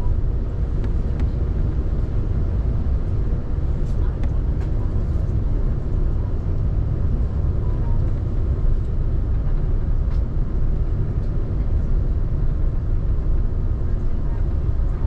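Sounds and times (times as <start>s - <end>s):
aircraft engine noise: 0.0s - 15.0s
cabin air-conditioning noise: 0.0s - 15.0s.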